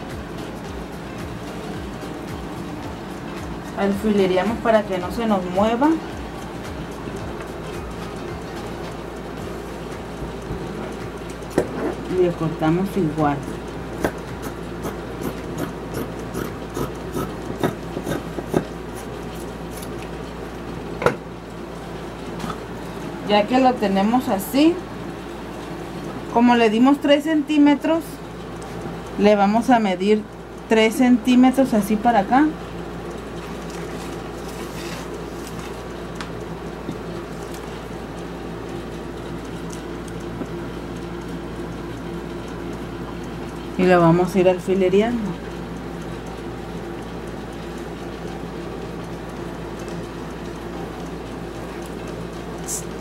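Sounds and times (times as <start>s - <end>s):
low machine hum: 0.0s - 53.0s.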